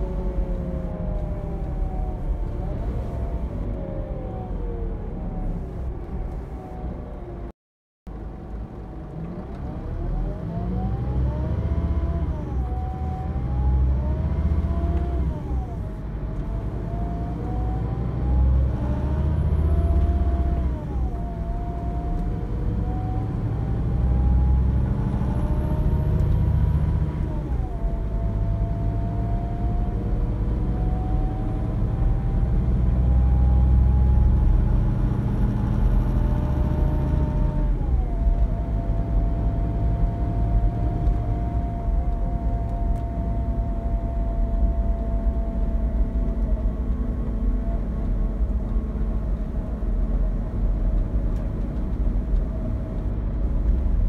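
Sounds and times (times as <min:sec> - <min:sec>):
diesel coach engine accelerating: 0:00.0 - 0:54.0.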